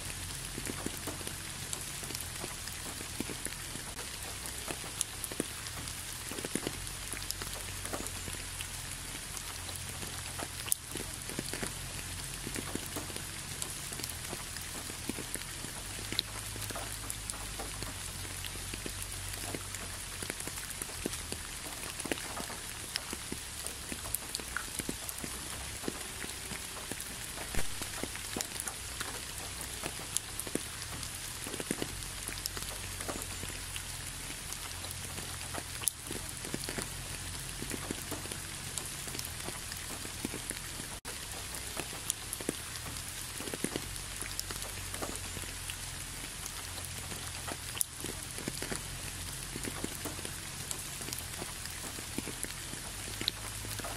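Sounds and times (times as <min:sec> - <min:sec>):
low steady rumble: 0:00.0 - 0:53.9
raindrops clicking: 0:00.0 - 0:53.9
steady rain falling: 0:00.0 - 0:53.9.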